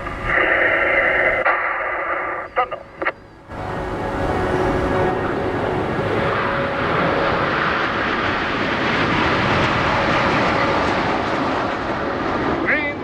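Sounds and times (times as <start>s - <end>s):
jet engines flying past: 0.0s - 13.0s.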